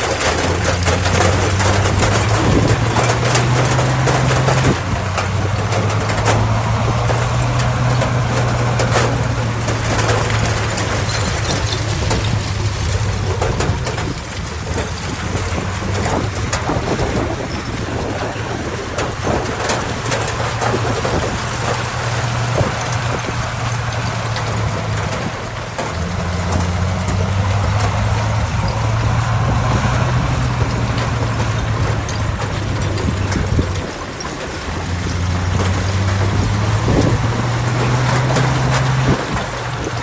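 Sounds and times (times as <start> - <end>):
diesel earthmoving machinery running: 0.0 - 40.0
metal clanks and knocks: 0.0 - 40.0.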